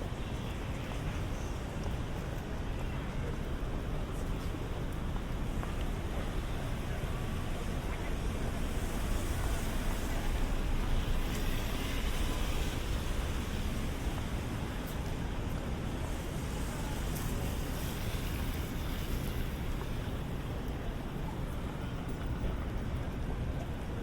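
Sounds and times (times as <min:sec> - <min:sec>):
rain hiss on wet roads: 0:00.1 - 0:22.9
passing traffic: 0:00.1 - 0:24.0.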